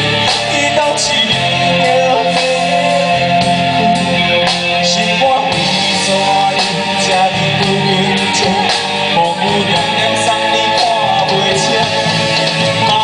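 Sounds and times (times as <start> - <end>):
guitar: 0.0 - 13.0
live band playing: 0.0 - 13.0.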